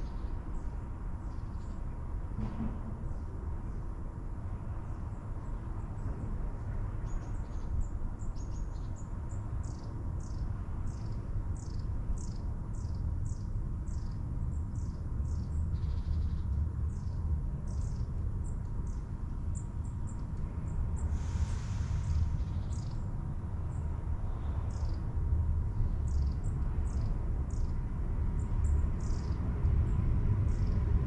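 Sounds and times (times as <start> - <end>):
train low rumble: 0.0 - 8.2, 8.8 - 31.0.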